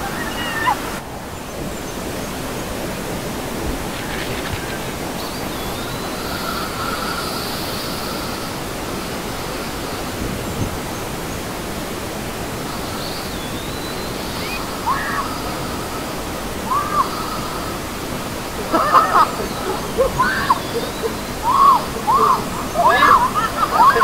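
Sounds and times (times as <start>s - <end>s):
waterfall rushing and splashing: 0.0s - 24.0s.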